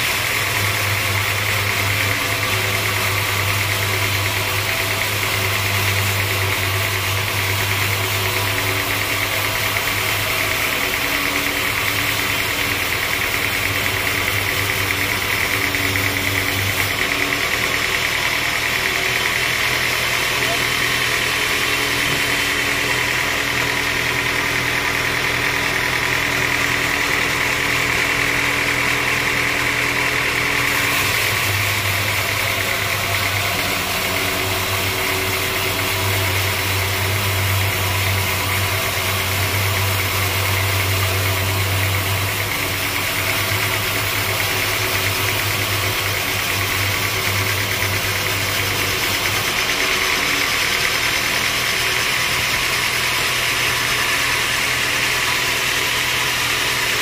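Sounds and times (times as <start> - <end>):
band saw cutting through log: 0.0 - 57.0.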